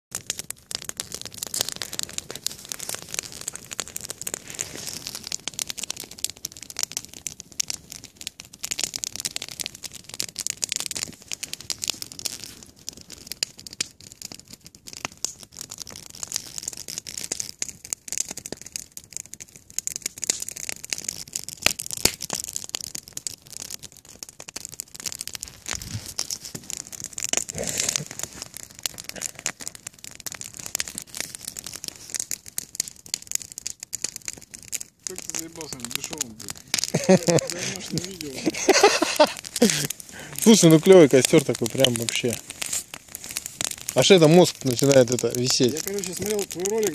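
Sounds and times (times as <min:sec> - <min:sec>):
wood fire crackling: 0:00.1 - 0:46.9.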